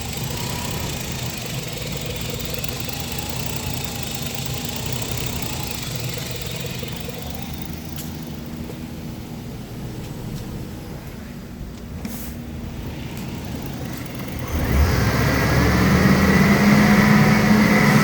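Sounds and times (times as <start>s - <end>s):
car engine idling: 0.0s - 11.0s, 12.4s - 18.0s.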